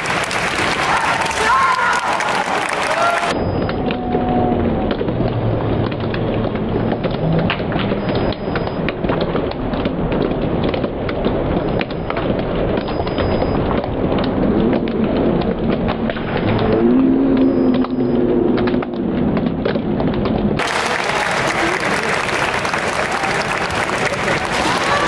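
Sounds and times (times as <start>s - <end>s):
rumble of echoing hall: 0.0s - 25.0s.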